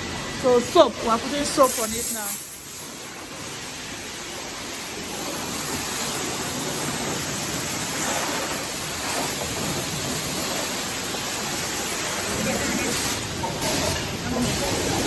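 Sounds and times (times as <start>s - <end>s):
pressure washer spraying water: 0.6s - 15.0s.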